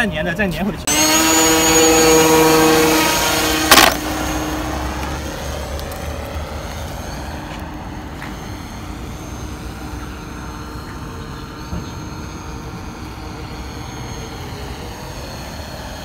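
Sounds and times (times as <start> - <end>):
model plane motor whine: 0.9 - 16.0.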